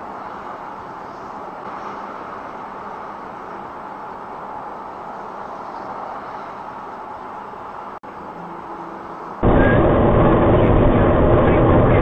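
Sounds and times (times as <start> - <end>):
road noise inside car: 0.0 - 12.0.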